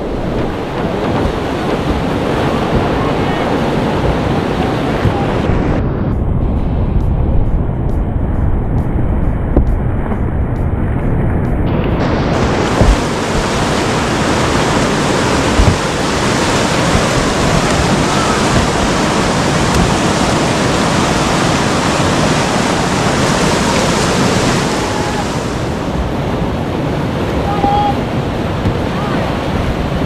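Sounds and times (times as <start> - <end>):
river rapids rushing: 0.0 - 6.0, 11.7 - 30.0
low thumps: 0.0 - 26.4, 28.4 - 30.0.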